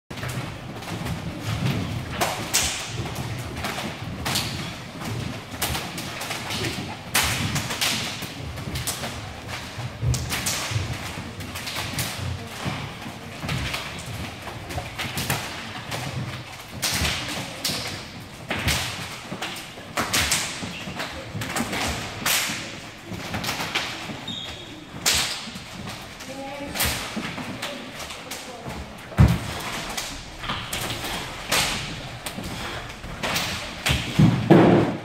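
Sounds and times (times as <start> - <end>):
resistance bands swishing: 0.1 - 35.0.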